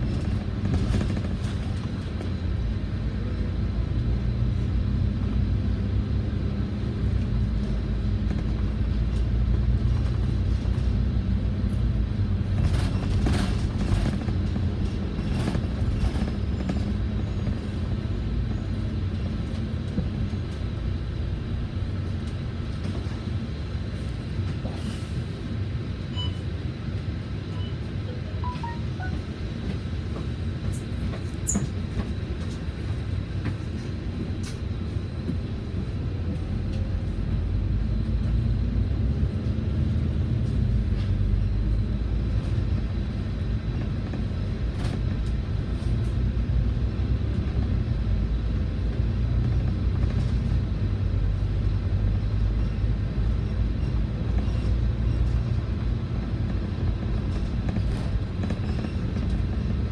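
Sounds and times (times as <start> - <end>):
bus diesel engine: 0.0 - 59.9
road and body rumble: 0.0 - 59.9.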